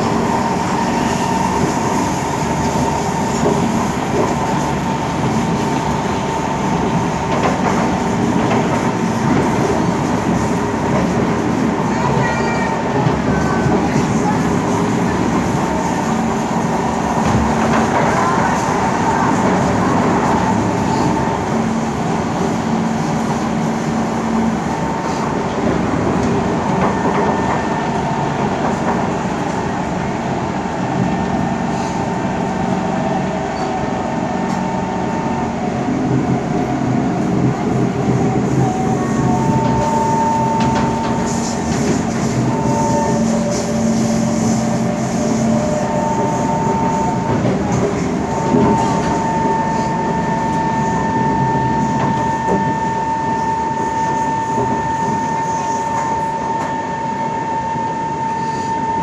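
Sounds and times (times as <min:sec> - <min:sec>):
train wheels on rail: 0:00.0 - 0:59.0.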